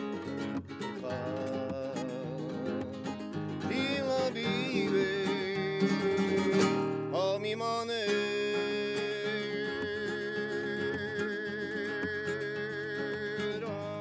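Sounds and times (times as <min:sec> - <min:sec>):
guitar strummed and plucked: 0:00.0 - 0:14.0
man singing long held notes: 0:01.0 - 0:14.0.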